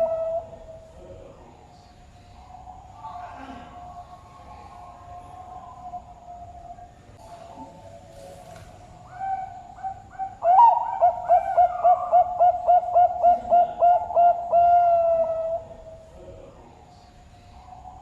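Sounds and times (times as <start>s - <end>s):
dove cooing: 0.0s - 1.4s, 2.3s - 16.6s.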